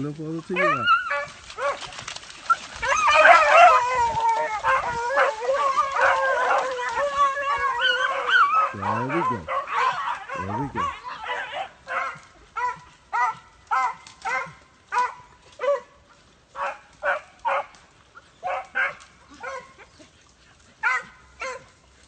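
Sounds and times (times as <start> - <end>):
hounds barking: 0.5 - 22.0.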